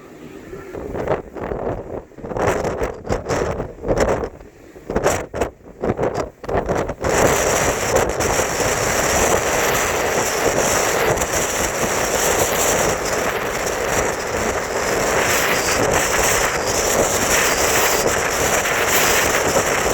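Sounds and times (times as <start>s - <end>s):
wind blowing on microphone: 0.0s - 19.9s.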